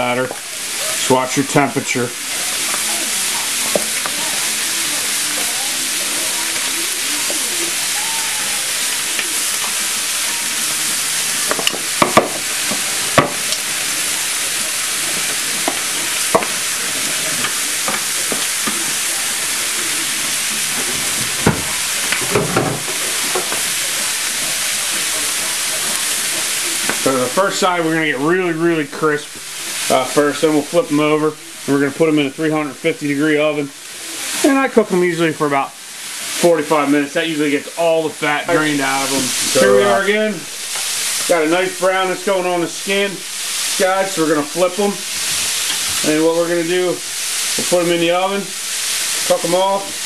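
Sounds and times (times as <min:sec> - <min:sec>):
chicken sizzling in a pan: 0:00.0 - 0:50.0.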